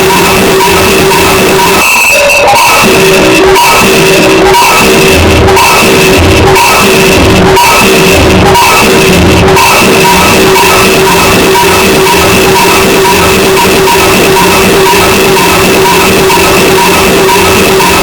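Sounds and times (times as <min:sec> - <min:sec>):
harsh distorted noise music: 0:00.0 - 0:18.0
high droning tone: 0:00.0 - 0:18.0.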